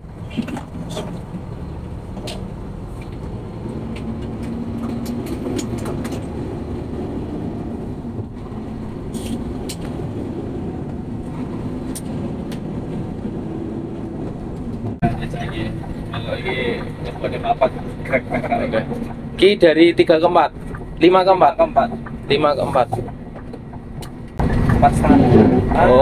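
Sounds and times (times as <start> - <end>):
truck engine and road drone: 0.0 - 26.0.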